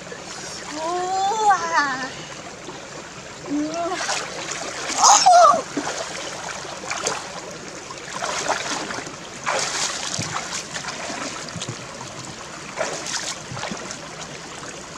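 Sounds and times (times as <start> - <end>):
stream running over rocks: 0.0 - 14.9
water splashing from wading: 0.0 - 14.9.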